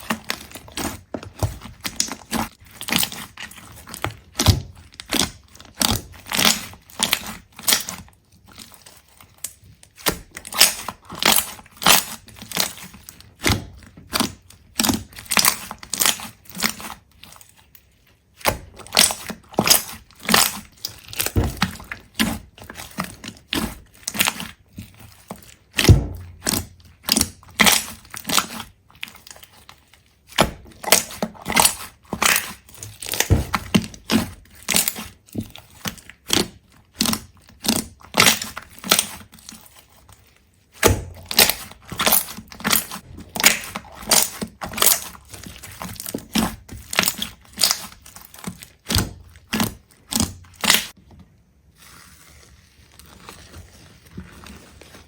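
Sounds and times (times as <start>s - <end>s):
crunching and crackling: 0.0s - 55.0s.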